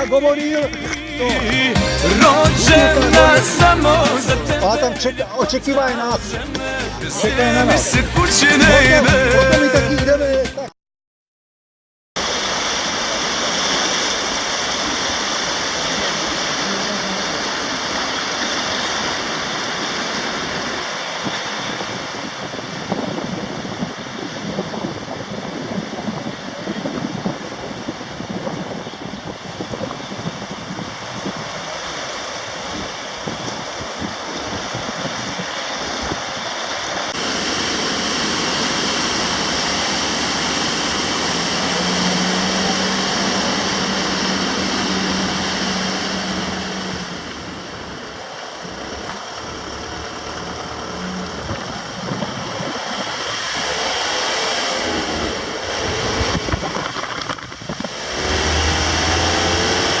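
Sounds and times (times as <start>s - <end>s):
river rapids rushing: 0.0s - 10.2s, 12.2s - 60.0s.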